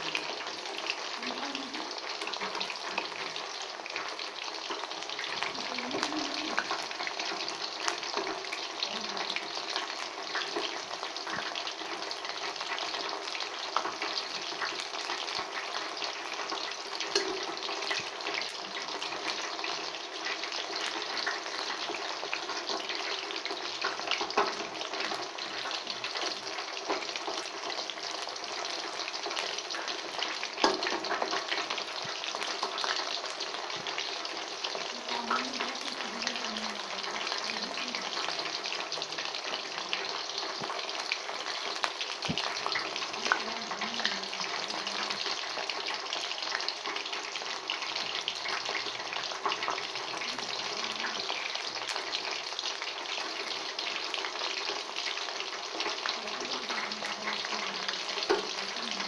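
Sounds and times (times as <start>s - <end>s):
food deep-frying in oil: 0.0s - 59.0s
oil crackling and popping: 0.0s - 59.0s.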